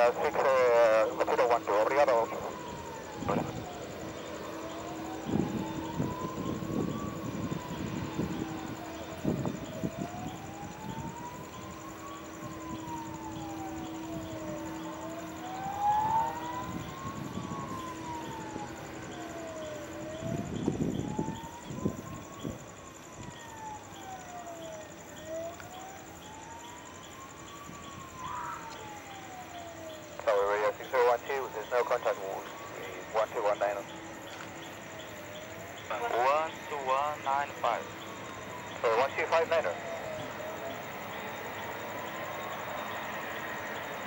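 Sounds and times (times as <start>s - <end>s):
wailing fire truck siren: 0.0s - 44.0s.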